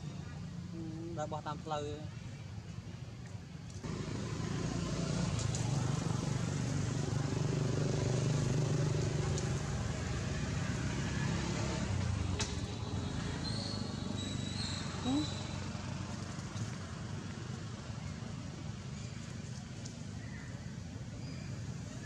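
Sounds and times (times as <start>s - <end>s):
vehicle engine humming: 3.7s - 22.0s.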